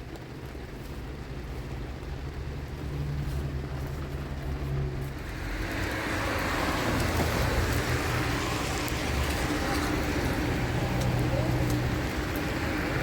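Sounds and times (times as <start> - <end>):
road or wind noise hiss: 0.0 - 13.0
vehicle engine hum: 0.0 - 13.0.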